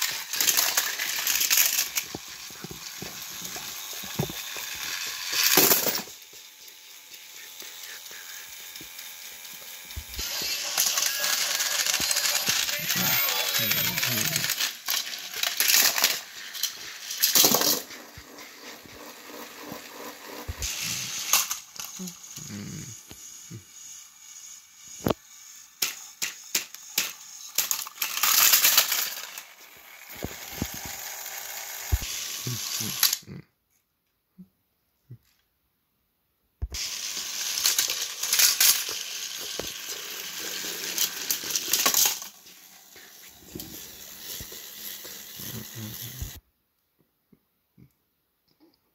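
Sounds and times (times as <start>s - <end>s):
plastic toy trains clattering: 0.0s - 22.3s, 25.8s - 33.2s, 36.8s - 46.4s.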